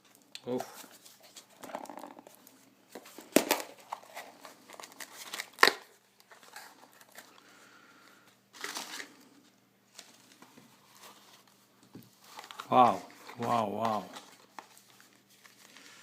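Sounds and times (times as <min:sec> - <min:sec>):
packaging crinkling and rustling: 0:00.0 - 0:07.5, 0:08.5 - 0:16.0.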